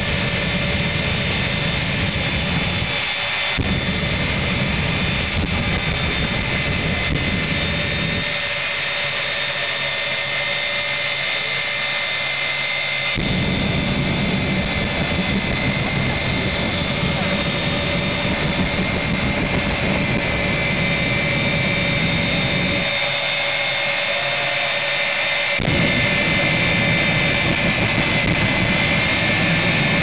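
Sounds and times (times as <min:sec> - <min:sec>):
jet engine roar: 0:00.0 - 0:30.0
jet engine turbine whine: 0:00.0 - 0:30.0.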